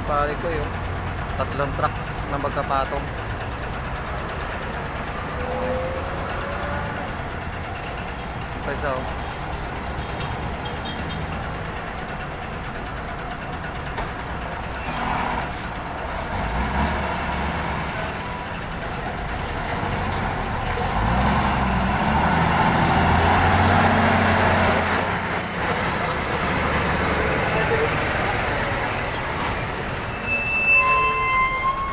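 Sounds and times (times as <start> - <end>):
heavy truck engine drone: 0.0 - 31.9.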